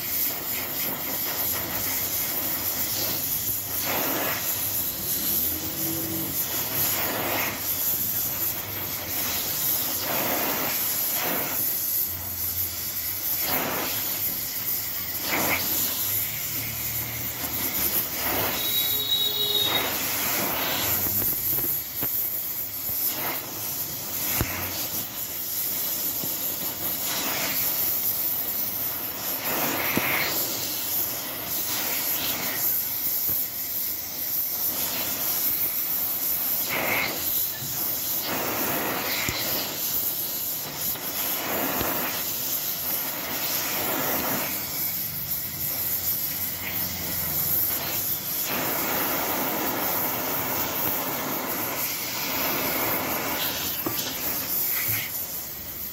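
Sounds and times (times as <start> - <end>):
welding arc hissing: 0.0 - 55.9.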